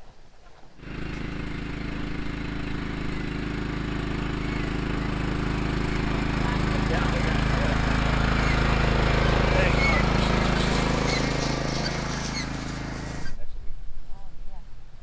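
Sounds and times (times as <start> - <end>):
tractor engine running: 0.8 - 13.4.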